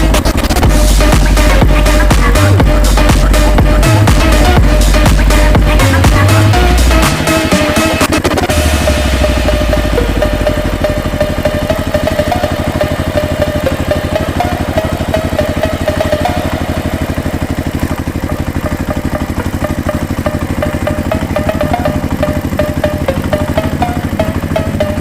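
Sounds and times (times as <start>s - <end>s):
small tractor engine idling: 0.0s - 25.0s.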